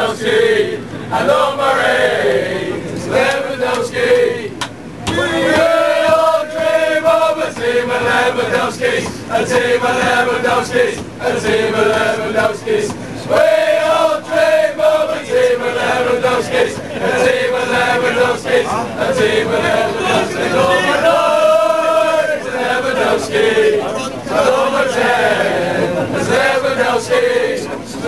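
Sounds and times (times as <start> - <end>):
men chanting together: 0.0 - 4.5, 5.1 - 28.0.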